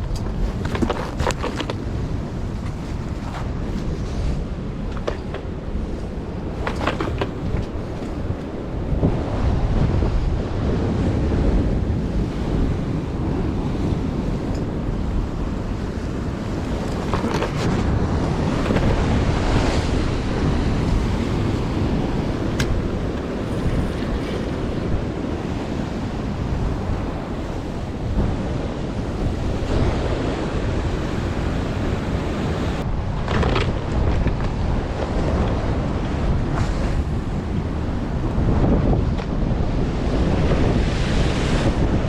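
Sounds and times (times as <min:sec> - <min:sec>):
strong wind buffeting microphone: 0:00.0 - 0:42.0
waves washing on shore: 0:00.0 - 0:42.0.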